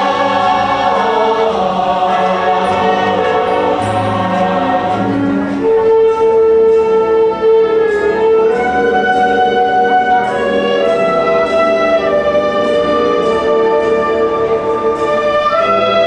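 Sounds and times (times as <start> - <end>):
concert band playing: 0.0 - 16.0.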